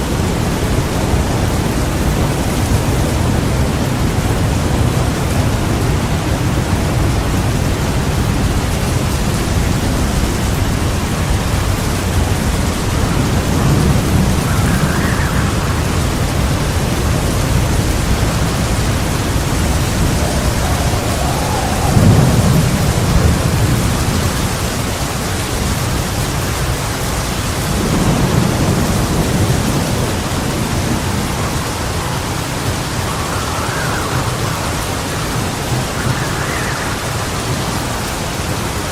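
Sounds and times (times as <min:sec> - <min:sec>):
heavy rain falling: 0:00.0 - 0:38.9
low rolls of thunder: 0:00.0 - 0:38.9.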